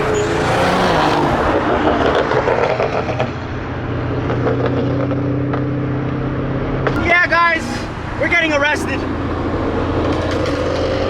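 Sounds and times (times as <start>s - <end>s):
car engines running loudly: 0.0s - 11.0s.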